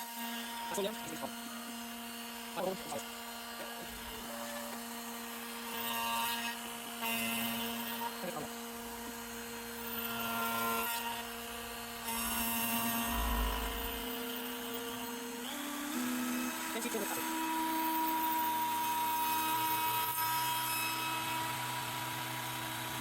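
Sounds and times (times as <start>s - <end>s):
router spindle whine: 0.0s - 23.0s.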